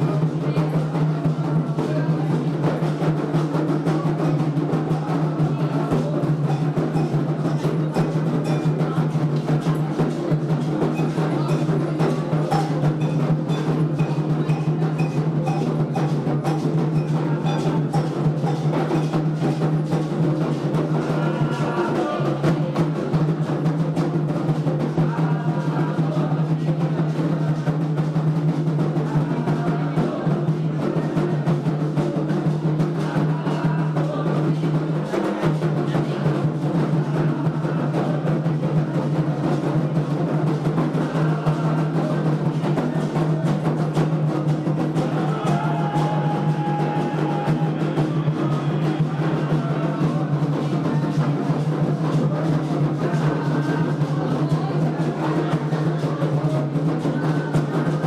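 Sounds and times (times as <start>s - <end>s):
faint singing voices: 0.0s - 58.0s
hand drums playing fast rhythm: 0.0s - 58.0s.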